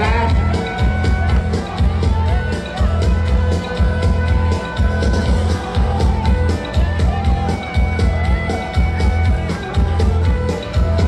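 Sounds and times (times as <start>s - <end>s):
loud music with heavy bass: 0.0s - 11.0s.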